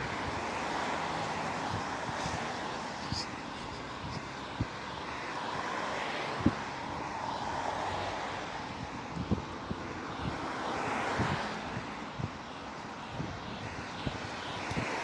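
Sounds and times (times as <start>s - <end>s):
road traffic rushing: 0.0s - 15.0s.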